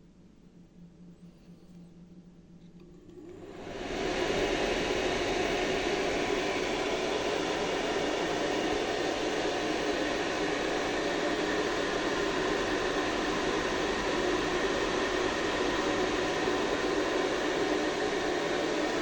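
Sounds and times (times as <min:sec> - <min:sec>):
ventilation fan spinning: 0:00.0 - 0:19.0.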